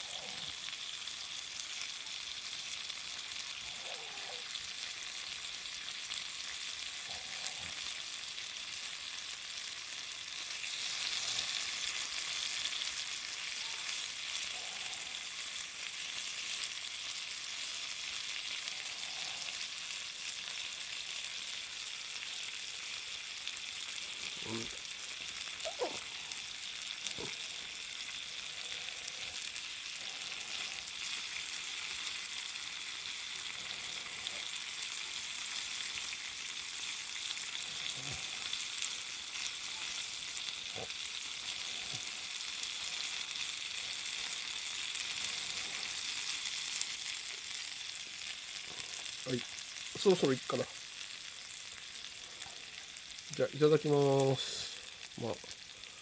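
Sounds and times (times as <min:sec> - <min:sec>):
food sizzling in a skillet: 0:00.0 - 0:56.0.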